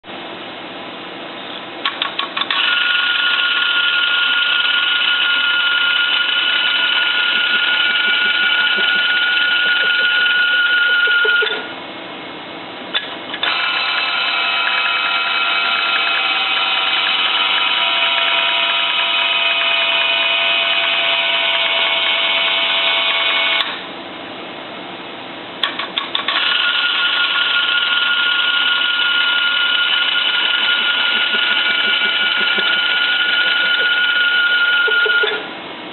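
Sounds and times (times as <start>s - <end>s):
loud mechanical buzz: 1.9s - 11.8s, 13.3s - 23.9s, 26.1s - 35.6s
high whining tones: 2.5s - 11.8s, 13.4s - 23.8s, 26.3s - 35.5s.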